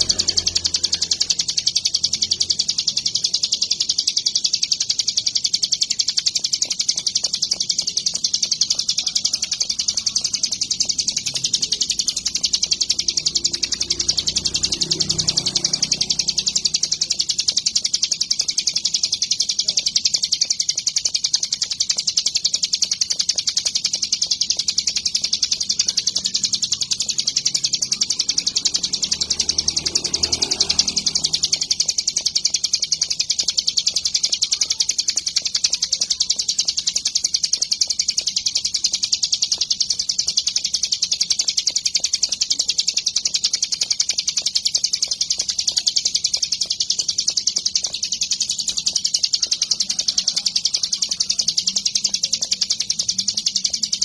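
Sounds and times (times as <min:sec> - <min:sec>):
bird singing rapid chattering song: 0:00.0 - 0:54.0.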